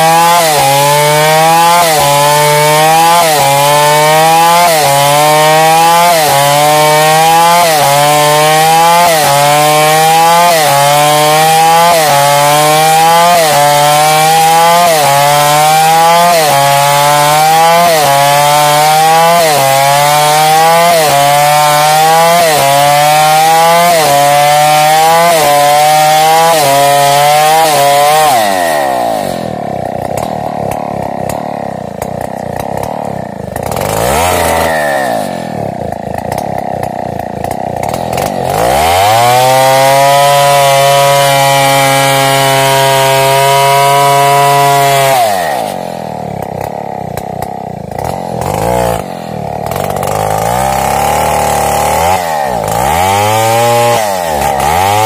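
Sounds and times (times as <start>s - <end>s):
chainsaw cutting log: 0.0s - 55.0s
chainsaw idling: 0.0s - 55.0s.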